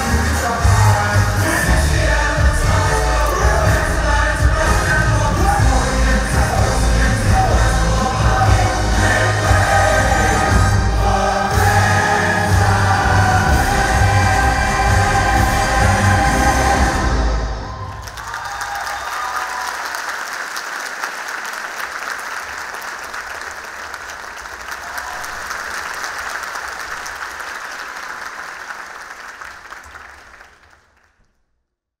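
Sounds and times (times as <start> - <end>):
audience applauding: 0.0 - 31.4.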